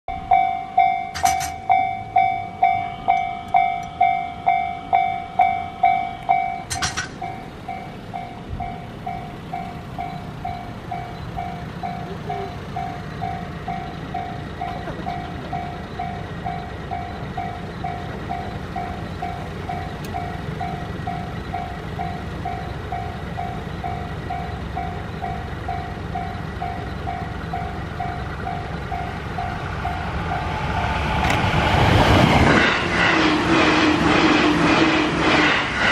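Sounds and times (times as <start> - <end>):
level crossing bell ringing: 0.1 - 30.0
electric train rumble: 0.1 - 35.9.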